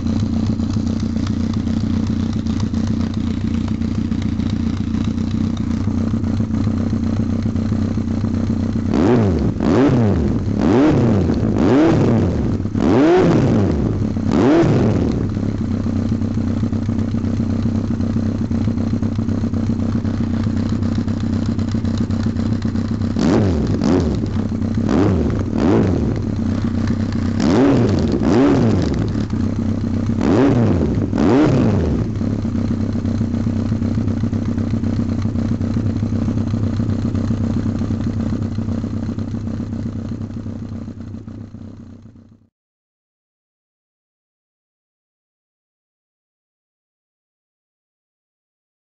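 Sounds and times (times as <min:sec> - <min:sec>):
motorcycle engine idling and revving: 0:00.0 - 0:42.5.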